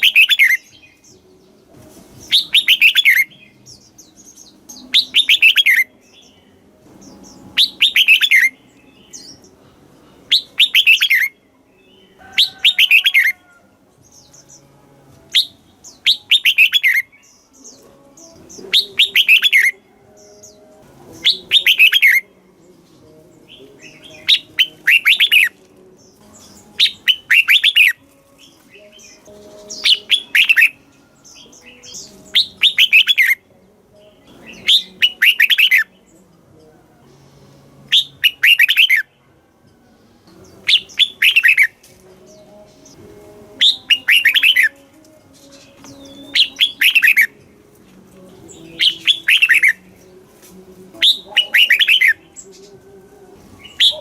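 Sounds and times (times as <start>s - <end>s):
bulbul singing warbled phrases: 0.0s - 39.2s, 40.0s - 54.0s.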